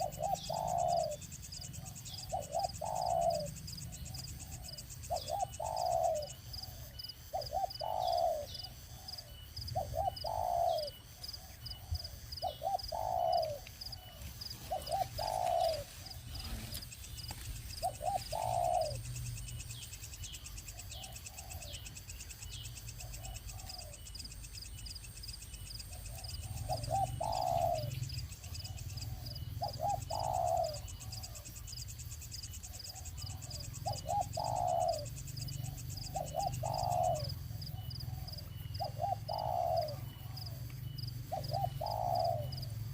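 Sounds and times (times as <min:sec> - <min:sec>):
bird calling: 0:00.0 - 0:31.9, 0:32.5 - 0:42.9.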